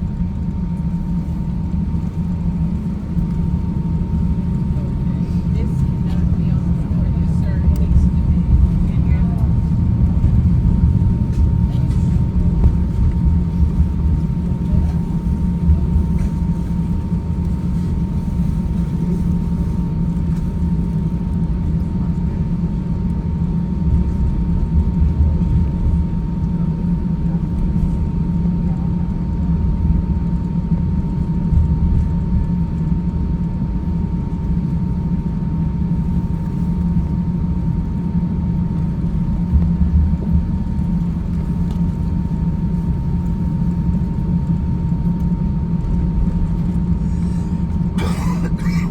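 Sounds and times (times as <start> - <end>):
jet cabin low rumble: 0.0 - 48.9
thin steady engine whine: 0.0 - 48.9.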